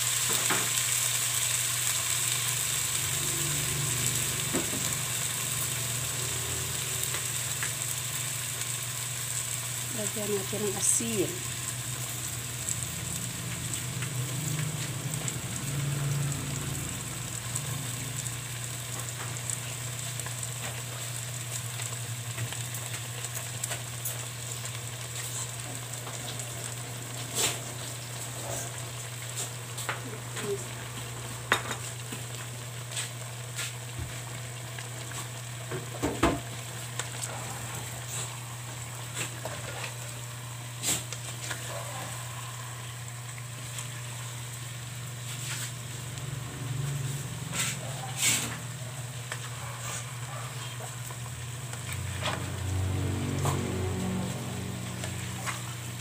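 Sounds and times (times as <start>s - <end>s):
chicken sizzling in a pan: 0.0s - 56.0s.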